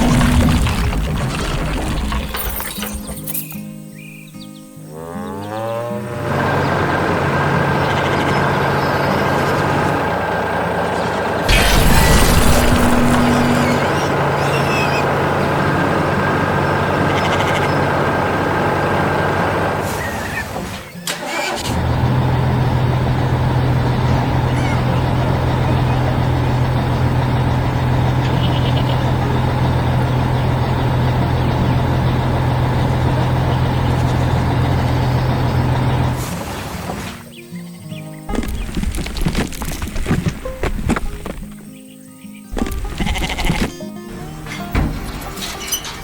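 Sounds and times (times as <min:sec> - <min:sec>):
heavy machinery engine running: 0:00.0 - 0:03.4, 0:05.9 - 0:37.2, 0:38.3 - 0:41.6, 0:42.6 - 0:46.0.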